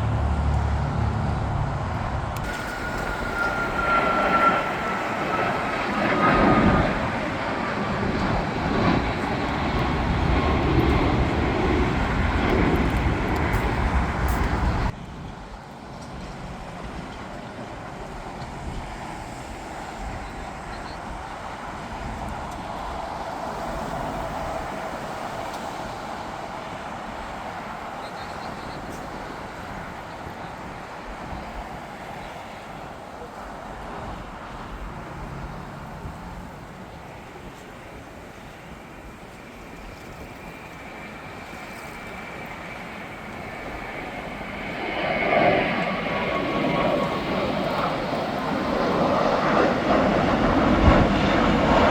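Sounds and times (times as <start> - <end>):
jet engines rushing with whine: 0.0 - 51.9.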